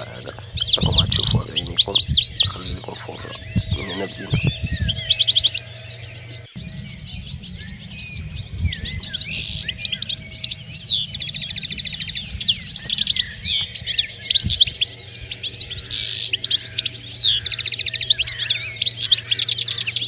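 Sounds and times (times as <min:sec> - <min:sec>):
goldfinches twittering: 0:00.0 - 0:20.0.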